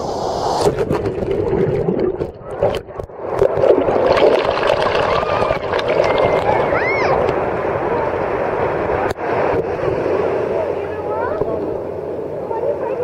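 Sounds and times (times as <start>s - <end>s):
water gurgling and splashing: 0.5s - 11.8s.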